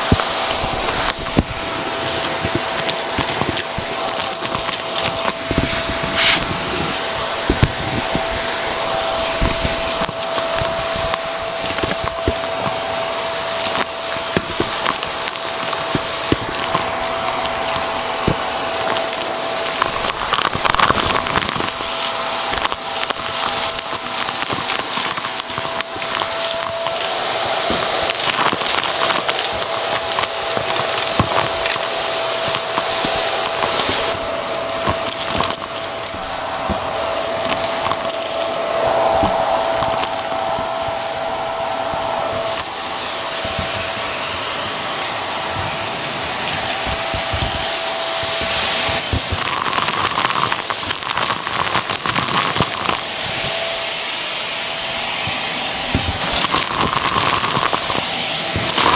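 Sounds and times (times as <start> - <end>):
debris rattling up vacuum wand: 0.0 - 58.9
stick vacuum whining: 0.0 - 58.9.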